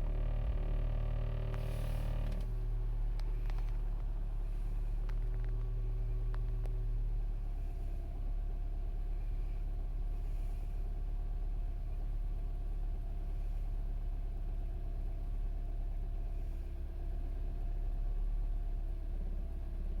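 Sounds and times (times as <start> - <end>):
car engine idling roughly: 0.0 - 16.6.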